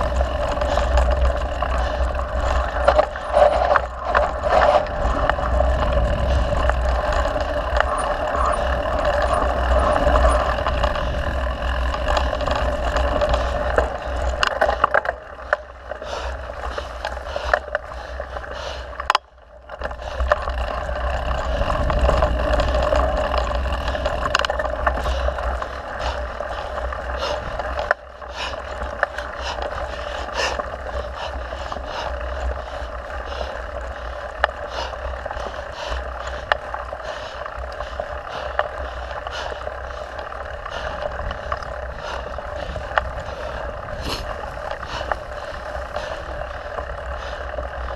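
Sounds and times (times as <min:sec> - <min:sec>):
bike rattles and knocks: 0:00.0 - 0:47.9
mountain bike riding on dirt: 0:00.0 - 0:47.9.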